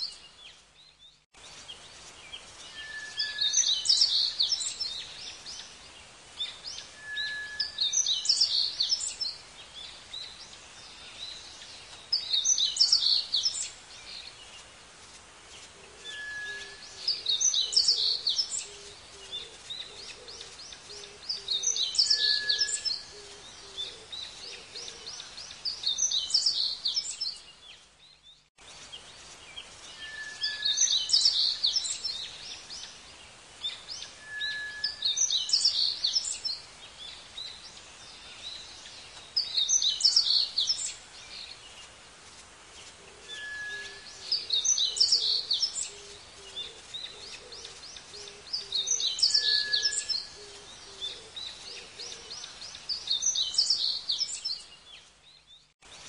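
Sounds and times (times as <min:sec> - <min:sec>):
outdoor background hiss: 0:00.0 - 0:56.0
songbird singing: 0:00.0 - 0:56.0.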